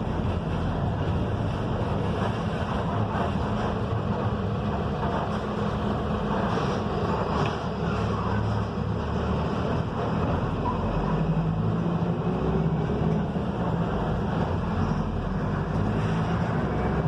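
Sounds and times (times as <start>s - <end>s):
bus diesel engine running: 0.0s - 17.0s
road and wind noise: 0.0s - 17.0s.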